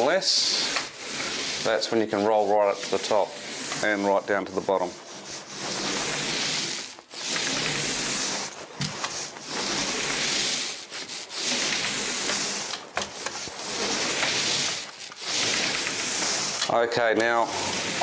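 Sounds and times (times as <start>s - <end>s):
paint roller rasping on wall: 0.0s - 18.0s.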